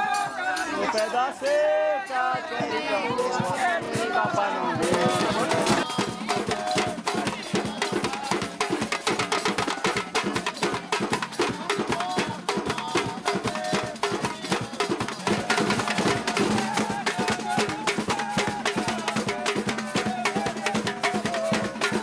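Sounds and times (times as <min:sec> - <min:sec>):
hand drums and tambourines: 0:00.0 - 0:22.0
voices singing: 0:00.0 - 0:22.0.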